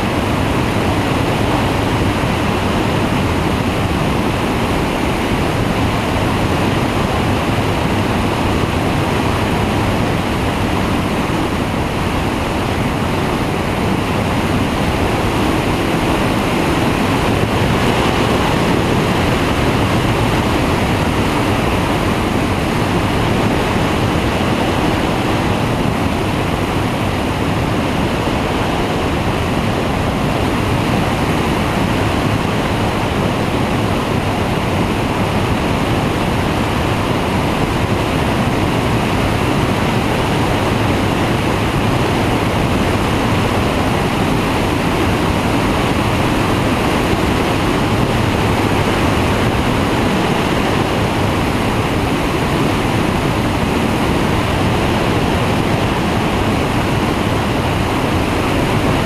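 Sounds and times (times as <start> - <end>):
airflow rushing: 0.0 - 59.0
engine and propeller running: 0.0 - 59.0.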